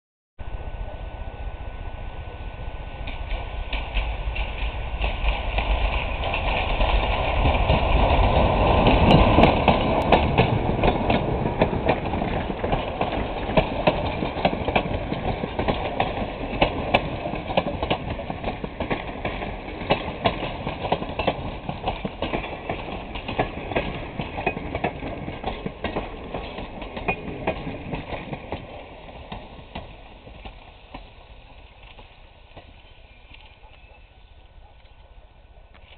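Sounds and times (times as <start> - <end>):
train wheels clattering over rail joints: 3.0 - 34.0.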